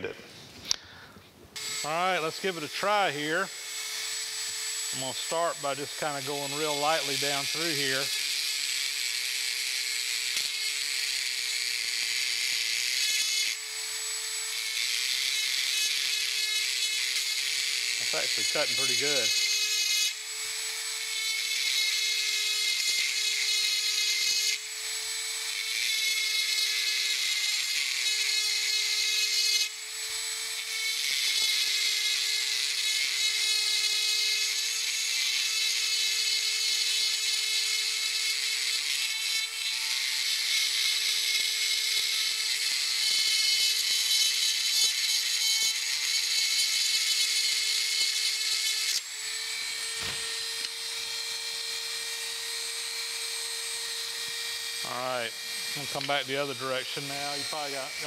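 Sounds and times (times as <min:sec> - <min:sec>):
rotary tool grinding metal: 0:01.6 - 0:58.0.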